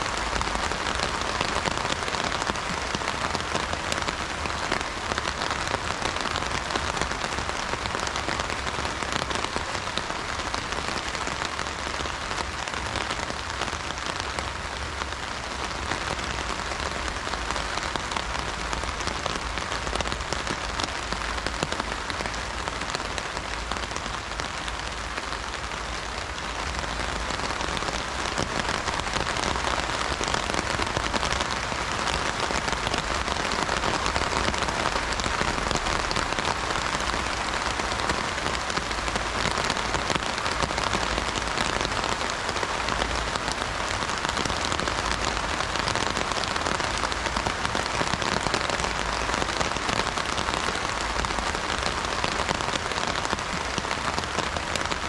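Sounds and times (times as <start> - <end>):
heavy rain on an umbrella: 0.0 - 55.0.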